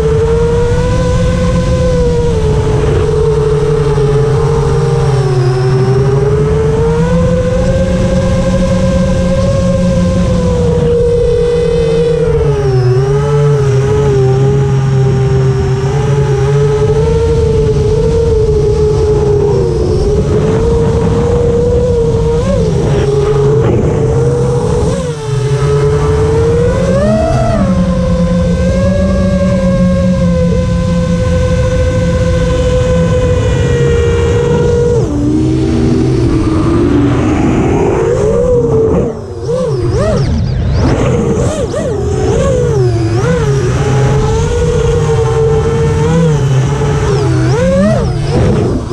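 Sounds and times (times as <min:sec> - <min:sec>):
drone motors whining: 0:00.0 - 0:48.9
rushing wind noise: 0:00.0 - 0:48.9.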